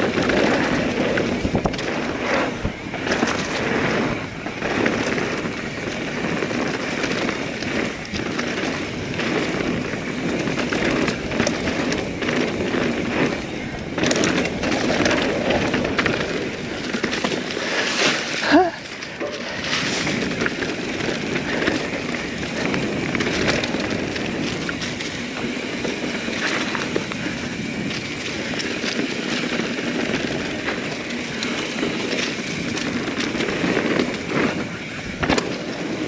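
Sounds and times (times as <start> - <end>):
bike tyre noise and rattle: 0.0 - 36.0
wind on microphone: 0.0 - 36.0.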